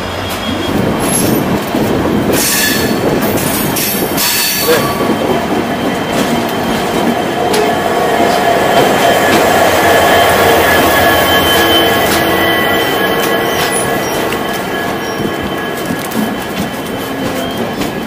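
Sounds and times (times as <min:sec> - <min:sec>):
wheel squeal: 0:00.0 - 0:01.6, 0:02.3 - 0:18.0
train wheels rumbling on track: 0:00.0 - 0:18.0.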